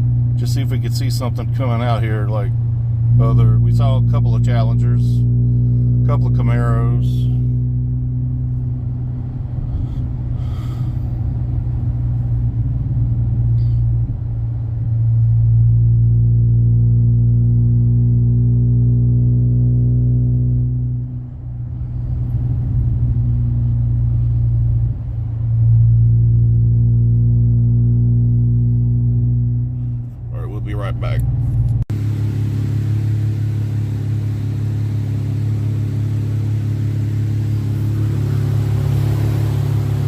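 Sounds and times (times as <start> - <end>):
car engine and exhaust droning: 0.0 - 40.0.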